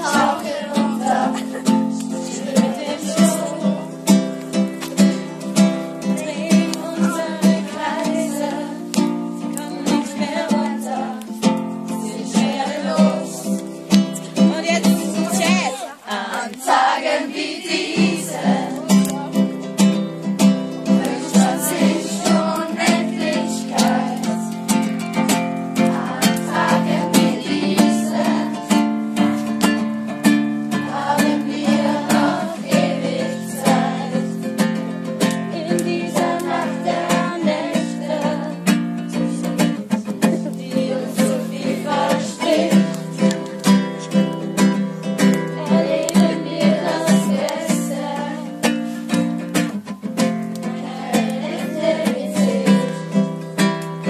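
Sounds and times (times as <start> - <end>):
group of voices singing: 0.0 - 49.5, 50.6 - 54.0
acoustic guitar strumming: 0.0 - 54.0.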